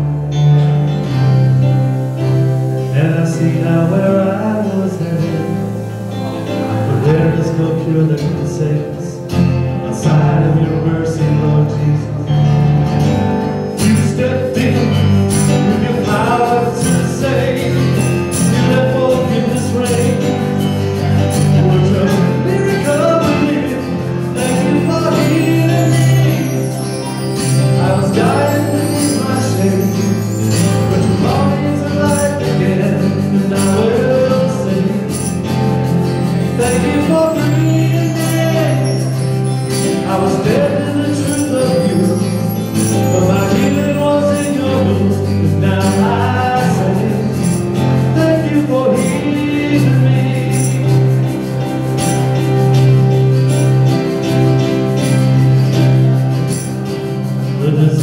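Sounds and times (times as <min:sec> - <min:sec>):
acoustic guitar: 0:00.0 - 0:58.0
keyboard: 0:00.0 - 0:58.0
person singing: 0:01.6 - 0:58.0.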